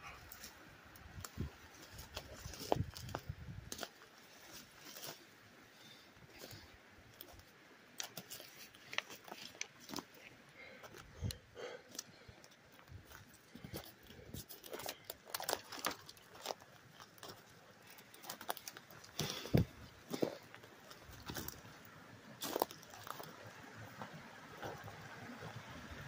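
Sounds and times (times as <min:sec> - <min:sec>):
twigs crackling and snapping: 0:00.2 - 0:05.2, 0:06.3 - 0:23.4
footsteps crunching undergrowth: 0:00.3 - 0:05.4, 0:06.3 - 0:11.1, 0:12.9 - 0:21.8, 0:22.4 - 0:24.9.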